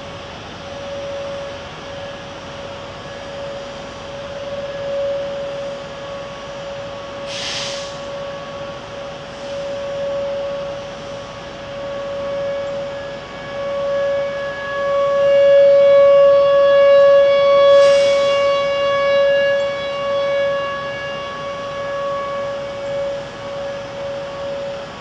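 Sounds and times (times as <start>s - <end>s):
tornado siren wailing: 0.0s - 25.0s.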